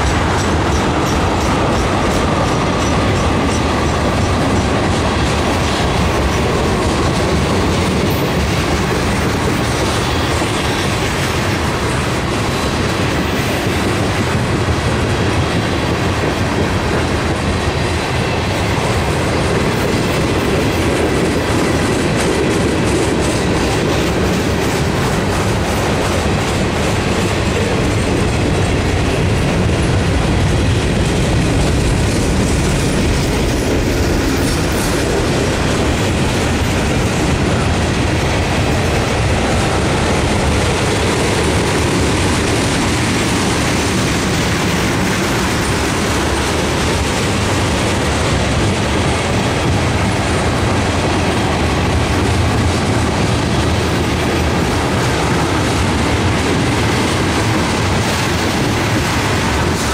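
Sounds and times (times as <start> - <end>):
clickety-clack over rail joints: 0.0 - 59.9
steel wheels rumbling on rail: 0.0 - 59.9.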